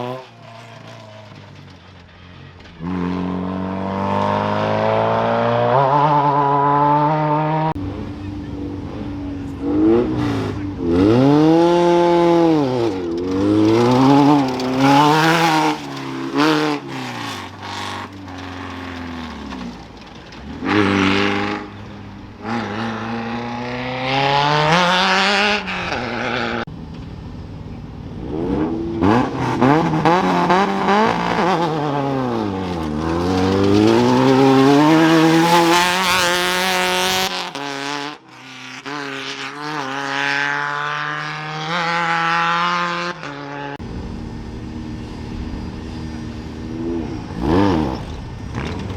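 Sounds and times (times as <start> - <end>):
race vehicle engines revving: 0.0 - 48.9.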